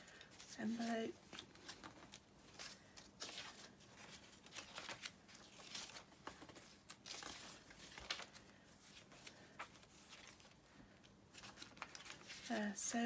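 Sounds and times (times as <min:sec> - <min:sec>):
paper pages turning: 0:00.0 - 0:10.6, 0:11.3 - 0:12.8.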